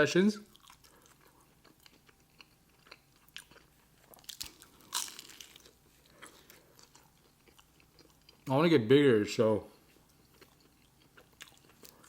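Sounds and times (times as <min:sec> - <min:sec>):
person biting and chewing: 0:00.5 - 0:08.4, 0:10.2 - 0:12.0.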